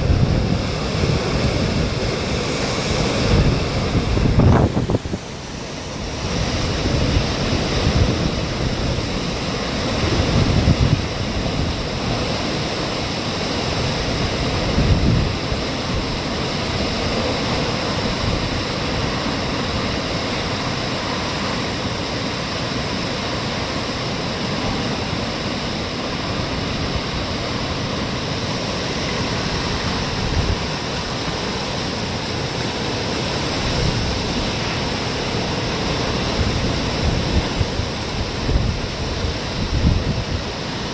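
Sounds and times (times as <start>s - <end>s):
hurricane wind and heavy rain: 0.0s - 40.9s
wind gusts buffeting microphone: 0.0s - 40.9s.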